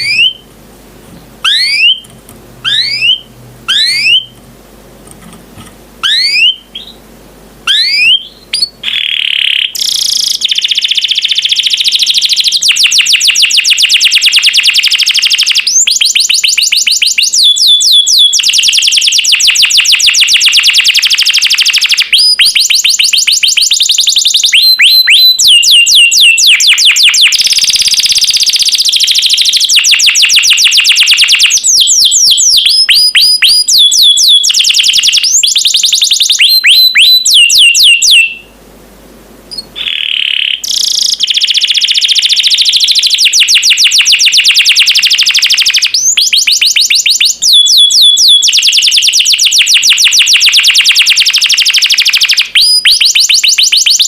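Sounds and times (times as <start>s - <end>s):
canary singing: 0.0s - 0.5s, 1.4s - 4.4s, 6.0s - 38.6s, 39.5s - 54.0s.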